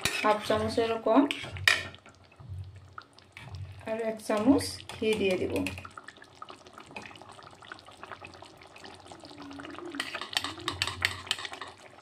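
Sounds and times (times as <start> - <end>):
curry bubbling: 0.0 - 12.0.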